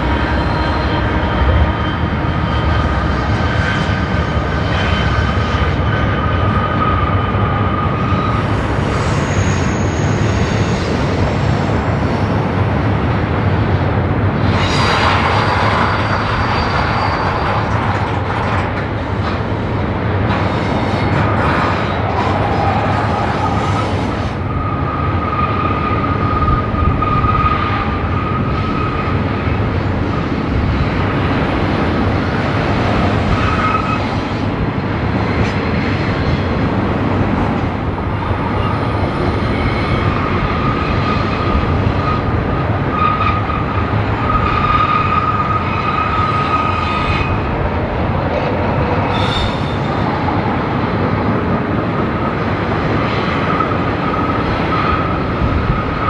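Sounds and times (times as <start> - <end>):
wheel flanges squealing: 0.0 - 11.7, 14.4 - 19.3, 20.4 - 34.6, 38.0 - 50.5, 52.1 - 56.0
train wheels rumbling: 0.0 - 56.0.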